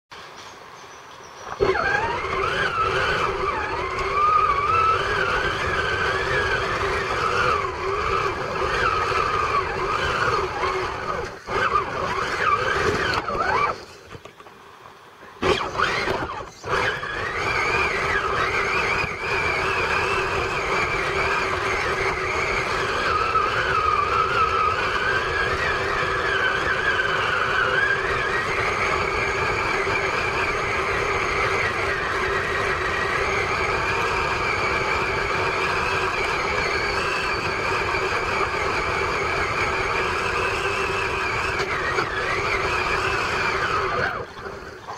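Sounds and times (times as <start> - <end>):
toy truck electric motor whining: 1.4 - 14.4, 15.4 - 44.9.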